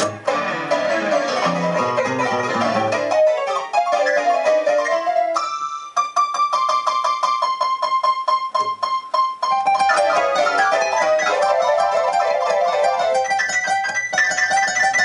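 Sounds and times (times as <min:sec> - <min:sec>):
electric keyboard piano playing: 0:00.0 - 0:15.0.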